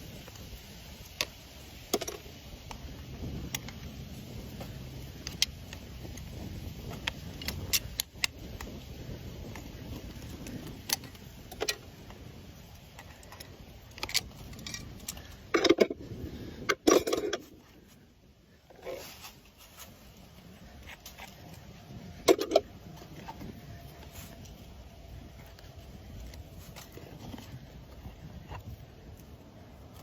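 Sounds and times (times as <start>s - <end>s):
tools clicking and scraping hoof: 0.0s - 30.0s.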